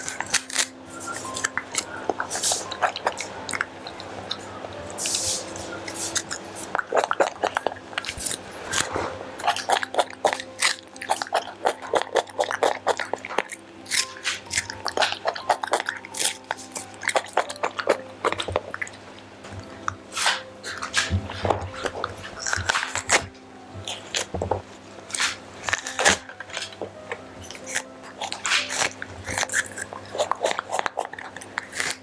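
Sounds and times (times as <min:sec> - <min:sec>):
monkey chewing raw vegetables: 0:00.0 - 0:32.0.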